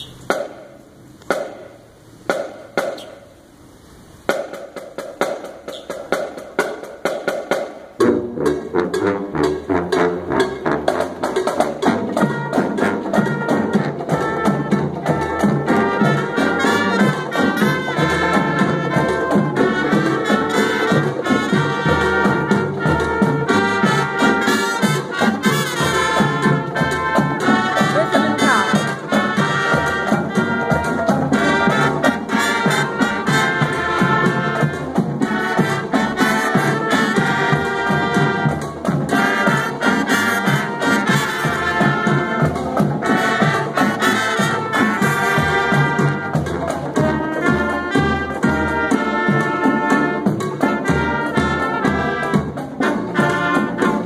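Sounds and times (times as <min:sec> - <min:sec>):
marching band playing: 0:00.0 - 0:03.4, 0:04.2 - 0:54.0.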